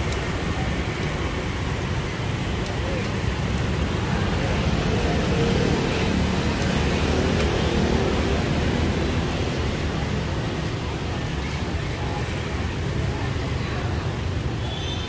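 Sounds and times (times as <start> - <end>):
faint chatter of people: 0.0 - 15.0
traffic rumble: 0.0 - 15.0.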